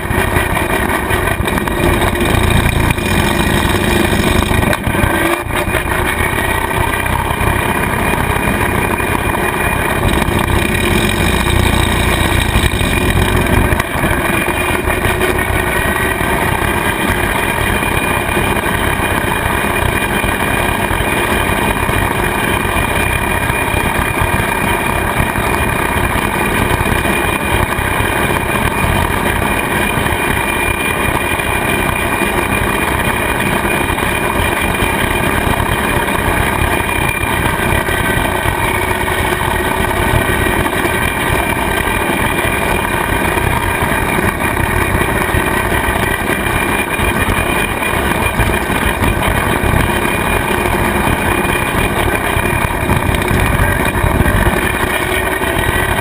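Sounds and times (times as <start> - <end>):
tractor engine and mower drone: 0.0 - 56.0.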